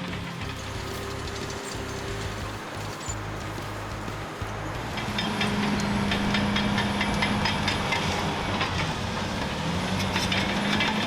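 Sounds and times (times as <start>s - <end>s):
bulldozer engine droning: 0.0s - 11.0s
metallic clatter of tracks: 0.0s - 11.0s.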